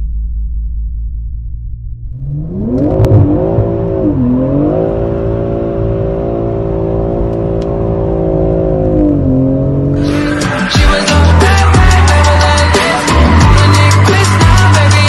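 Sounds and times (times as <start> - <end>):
car engine revving: 2.0 - 15.0.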